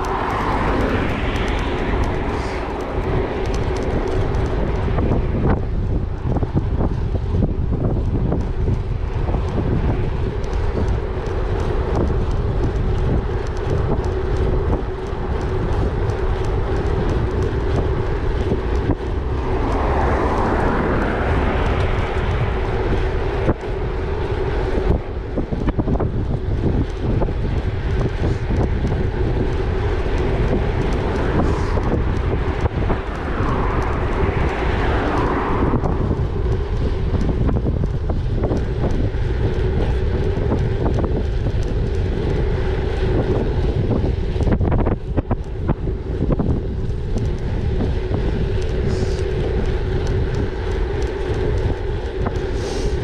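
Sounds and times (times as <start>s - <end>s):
bike tyres rolling on gravel: 0.0s - 53.0s
steady hum: 0.0s - 53.0s
wind over microphone: 0.0s - 53.0s.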